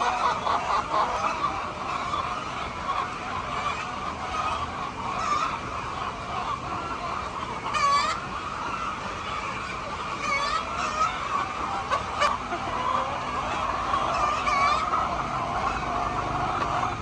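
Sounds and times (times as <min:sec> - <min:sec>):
chicken squawks: 0:00.0 - 0:17.0
chickens clucking: 0:00.0 - 0:17.0.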